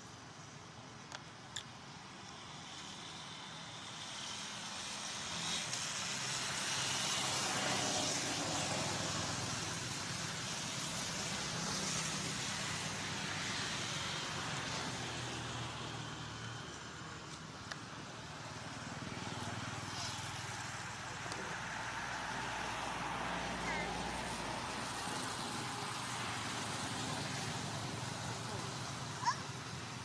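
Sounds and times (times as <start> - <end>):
motor vehicle passing: 4.1 - 30.0.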